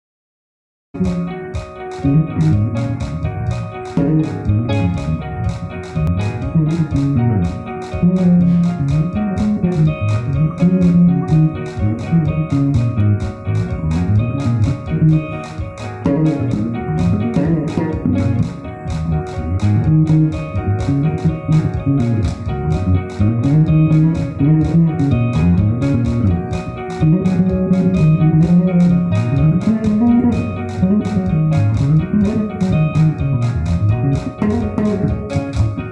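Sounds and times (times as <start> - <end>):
backing music with ticking beat: 1.0 - 35.9
electric bass guitar: 1.0 - 35.9.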